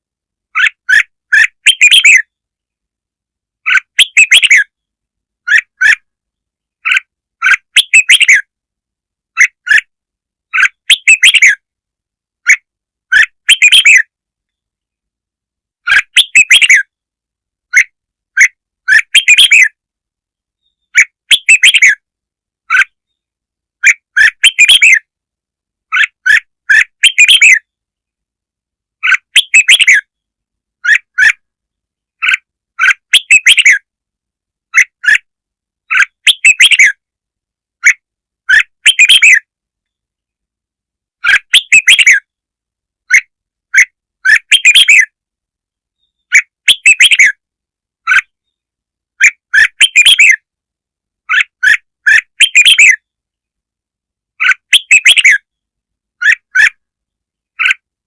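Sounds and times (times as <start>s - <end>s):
bird chirping song: 0.5s - 2.9s, 3.5s - 8.7s, 9.3s - 11.8s, 12.4s - 25.2s, 25.8s - 28.3s, 28.9s - 34.0s, 34.6s - 37.1s, 37.8s - 40.5s, 41.2s - 50.5s, 51.2s - 53.6s, 54.3s - 58.0s.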